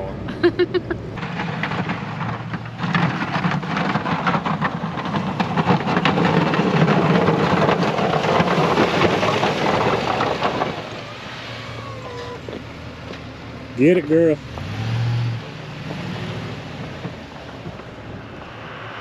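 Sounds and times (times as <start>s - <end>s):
truck engine running: 0.0s - 19.0s
plow blade scraping icy pavement: 0.9s - 19.0s.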